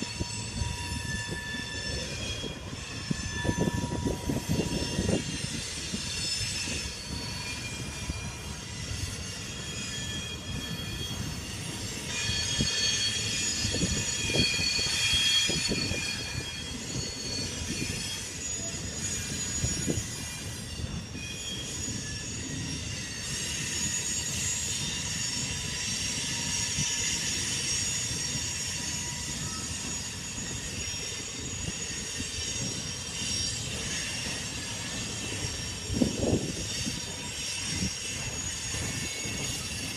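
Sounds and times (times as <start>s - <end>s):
train wheels squealing: 0.0s - 39.9s.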